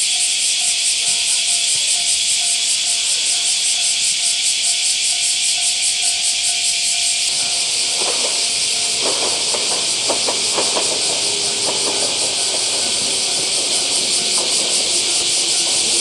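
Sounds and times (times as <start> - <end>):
steady high hiss: 0.0 - 16.0
train wheels clicking and squeaking: 0.0 - 16.0.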